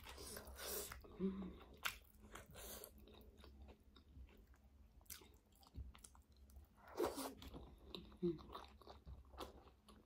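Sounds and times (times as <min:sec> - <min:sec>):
chewing and wet mouth sounds: 0:00.0 - 0:10.0.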